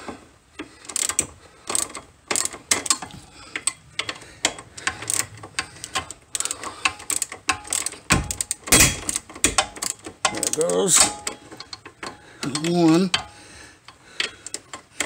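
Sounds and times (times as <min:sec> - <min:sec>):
ratchet wrench clicking: 0:00.6 - 0:15.0.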